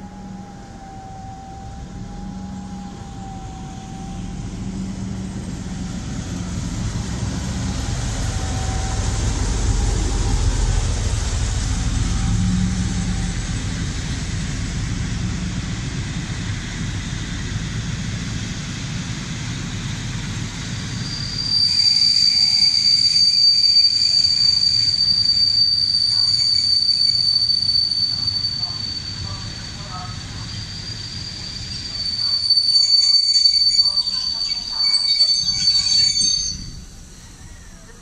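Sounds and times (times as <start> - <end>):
high-pitched train wheel squeal: 0.0 - 17.8, 19.4 - 38.0
diesel locomotive engine rumbling: 0.0 - 38.0.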